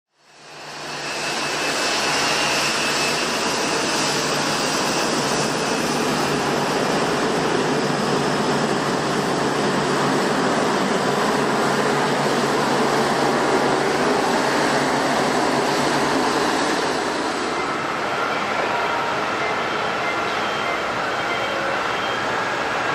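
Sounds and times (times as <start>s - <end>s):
jet engines running: 0.2s - 22.9s
steady whining tones: 0.4s - 22.9s.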